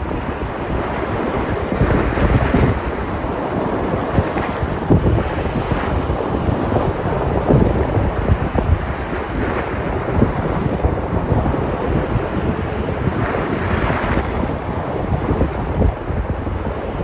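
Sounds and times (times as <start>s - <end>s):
sea surf breaking on shore: 0.0s - 17.0s
wind buffeting microphone: 0.0s - 17.0s.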